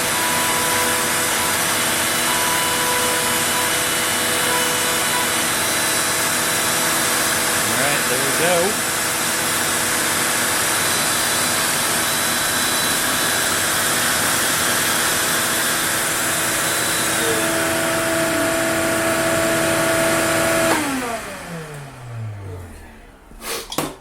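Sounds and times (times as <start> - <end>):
router spindle whining: 0.0 - 23.3
dust vacuum running: 0.0 - 23.6.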